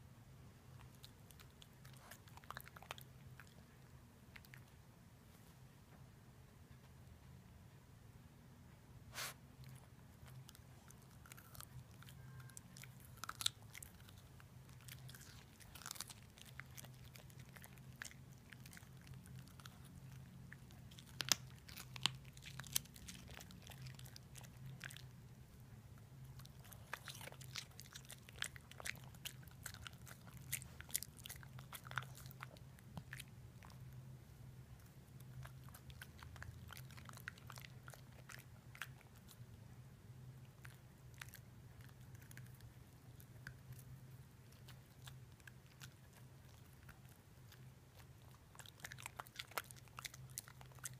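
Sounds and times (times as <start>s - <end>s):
faint low hum: 0.0s - 50.9s
dog crunching a carrot: 0.8s - 3.7s, 9.2s - 25.2s, 26.2s - 34.0s, 34.8s - 39.5s, 40.4s - 50.9s.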